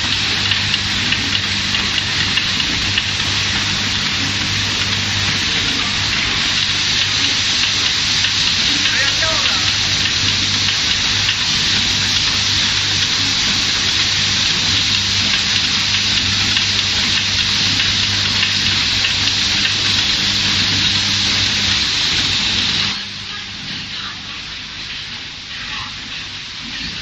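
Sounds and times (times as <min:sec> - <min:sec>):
laser welding machine hiss: 0:00.0 - 0:27.0.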